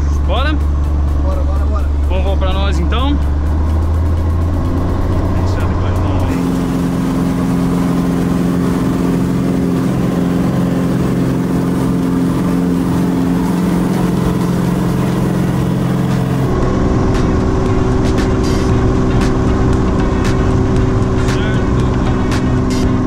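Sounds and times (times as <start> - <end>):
propeller airplane engine droning: 0.0 - 23.0.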